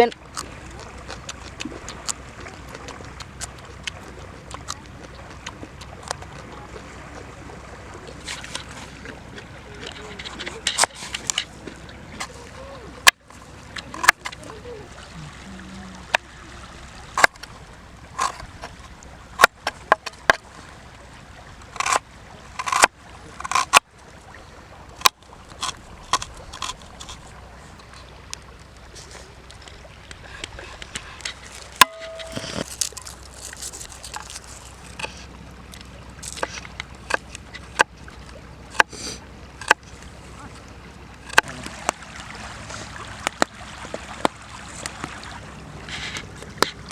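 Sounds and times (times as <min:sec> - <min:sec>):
faint wash of water: 0:00.0 - 0:46.9.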